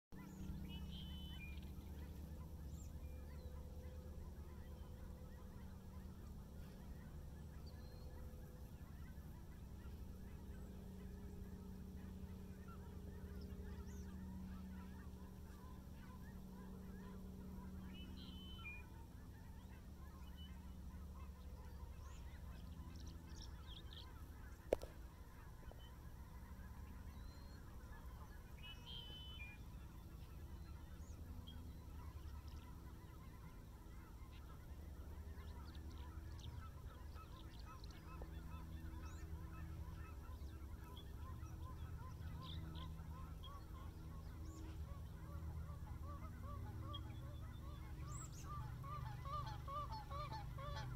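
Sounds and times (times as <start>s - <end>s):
distant bird calls: 0.1s - 50.9s
steady low rumble: 0.2s - 50.9s.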